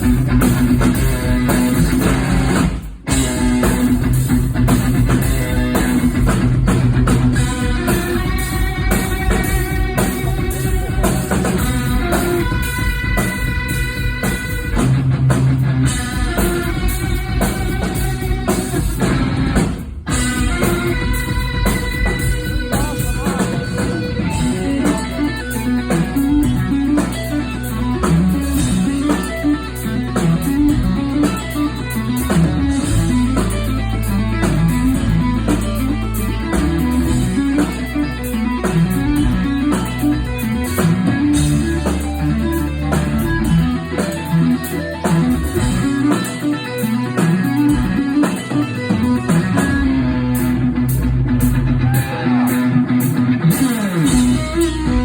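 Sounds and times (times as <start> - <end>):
bass line: 0.0 - 55.0
electric guitar runs: 0.0 - 55.0.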